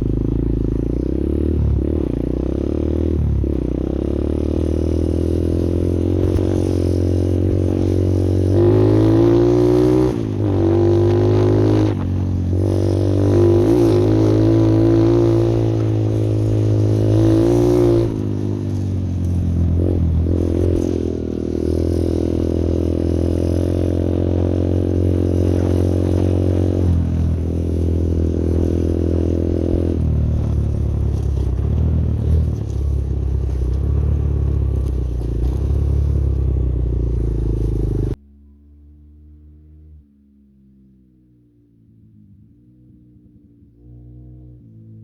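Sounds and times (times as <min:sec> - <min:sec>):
motorcycle engine revving under load: 0:00.0 - 0:45.0.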